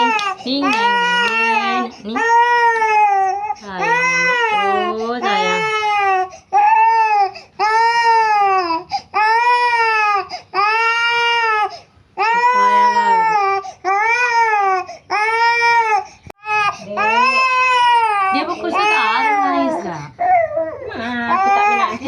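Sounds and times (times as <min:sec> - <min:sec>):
baby crying: 0:00.0 - 0:22.0.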